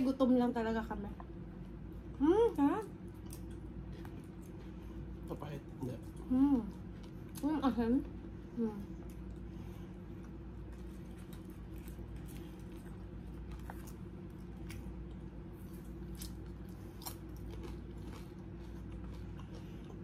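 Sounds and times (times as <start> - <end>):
steady low hum: 0.0 - 20.0
people chewing: 1.6 - 20.0.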